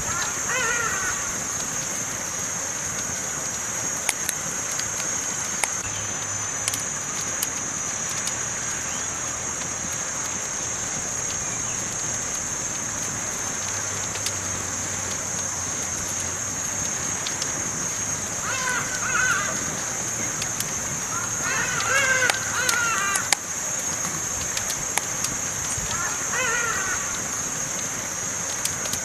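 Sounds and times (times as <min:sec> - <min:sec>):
campfire crackles and pops: 0:00.0 - 0:29.0
campfire hissing: 0:00.0 - 0:29.0.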